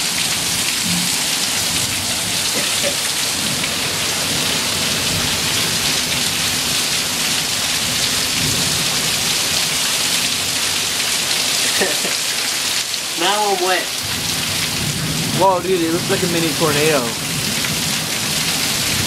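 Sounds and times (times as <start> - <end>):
rain pouring: 0.0 - 19.0.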